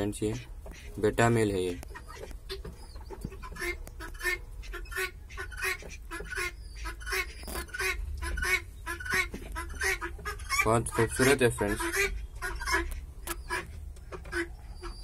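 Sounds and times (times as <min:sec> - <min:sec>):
fowl calling: 0:00.0 - 0:15.0.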